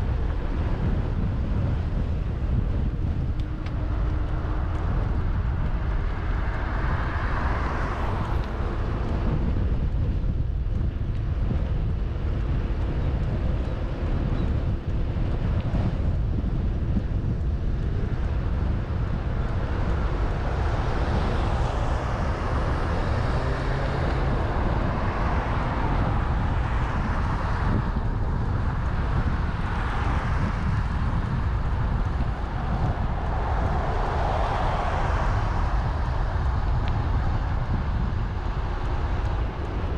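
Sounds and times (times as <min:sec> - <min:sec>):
outdoor street noise: 0:00.0 - 0:39.9
wind rumble on microphone: 0:00.0 - 0:39.9.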